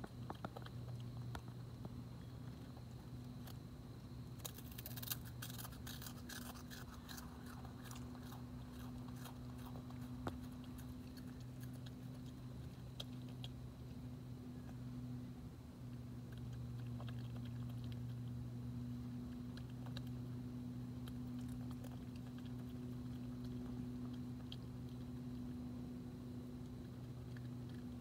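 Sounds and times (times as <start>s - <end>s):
animal crunching food: 0.0s - 28.0s
low hum: 0.0s - 28.0s.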